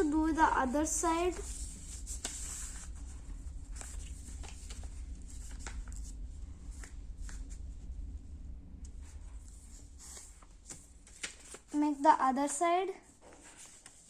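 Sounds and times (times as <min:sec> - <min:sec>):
low steady hum: 0:00.0 - 0:14.0
paper crinkling and folding: 0:01.0 - 0:07.6, 0:09.1 - 0:14.0.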